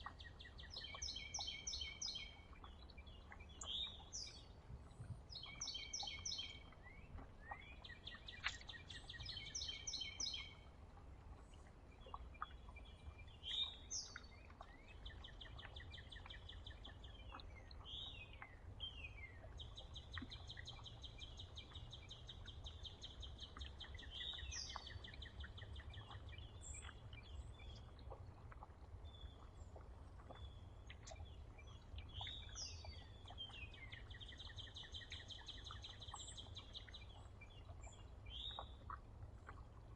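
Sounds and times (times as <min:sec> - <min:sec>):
faint low rumble: 0:00.0 - 0:39.9
songbirds chirping and trilling: 0:00.0 - 0:39.9.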